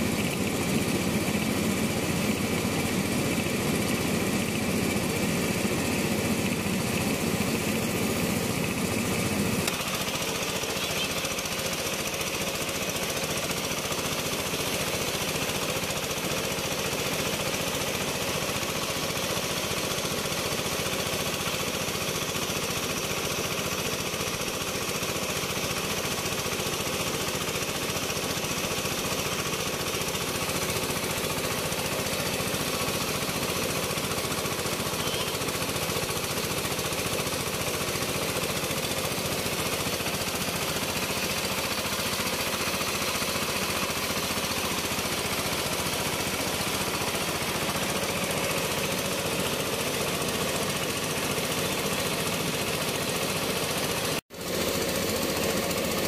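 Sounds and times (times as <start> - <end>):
engine beating steadily: 0.0 - 56.0
hiss of grain through machine: 0.0 - 56.0.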